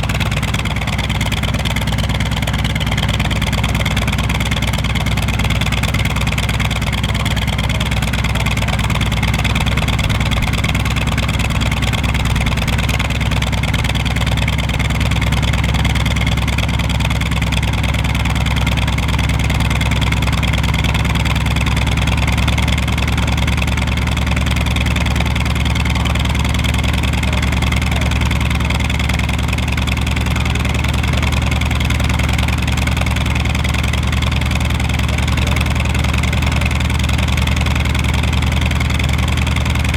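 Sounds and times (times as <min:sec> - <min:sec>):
radial engine idling: 0:00.0 - 0:39.9.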